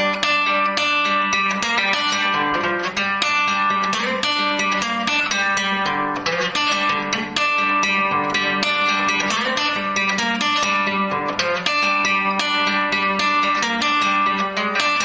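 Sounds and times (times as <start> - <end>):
guitar picking: 0.0 - 15.0.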